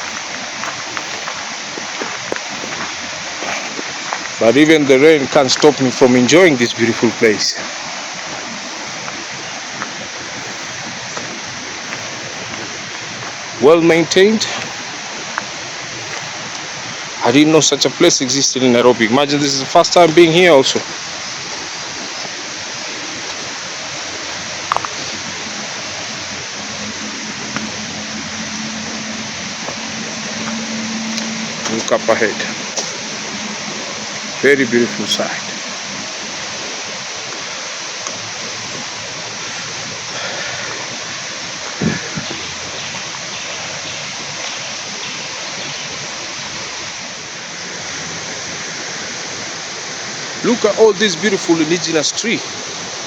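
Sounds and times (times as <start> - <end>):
rushing water: 0.0 - 53.0.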